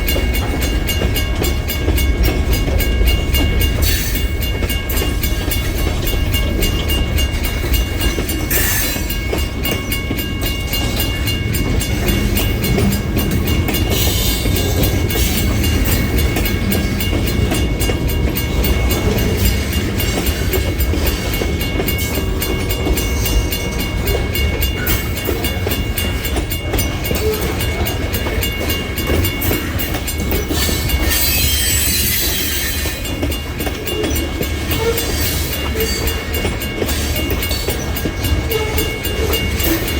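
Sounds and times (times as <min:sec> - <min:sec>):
freight train rumbling: 0:00.0 - 0:39.9
harsh wheel and rail noise: 0:00.0 - 0:39.9
wheels clacking over rail joints: 0:00.0 - 0:39.9.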